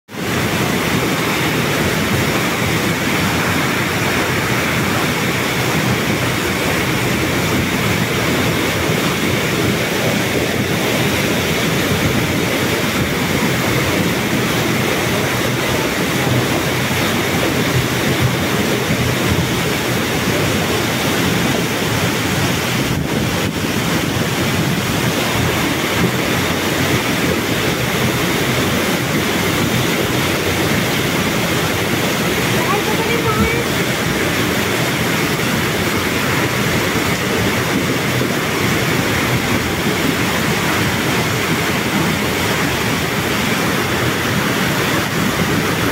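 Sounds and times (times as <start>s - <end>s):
floodwater rushing: 0.1s - 45.9s.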